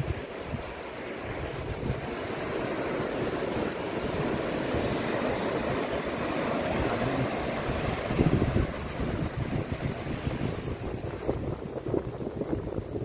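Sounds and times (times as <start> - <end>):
surf washing on shore: 0.0 - 13.0
wind rumbling on microphone: 0.0 - 13.0.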